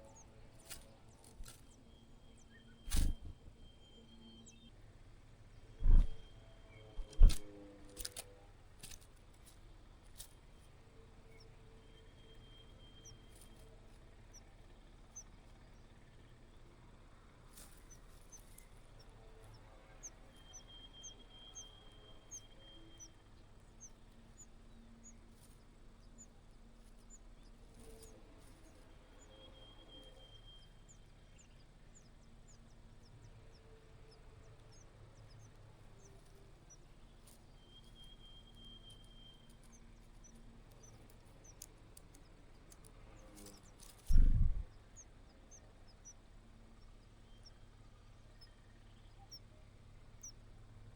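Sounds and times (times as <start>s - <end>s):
bird chicks chirping: 0.0s - 4.8s, 5.8s - 50.9s
low steady hum: 0.0s - 50.9s.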